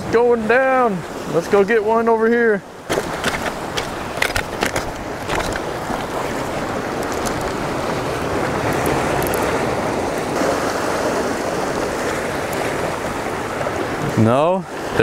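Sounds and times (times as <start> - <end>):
surf washing against rocks: 0.0 - 15.0.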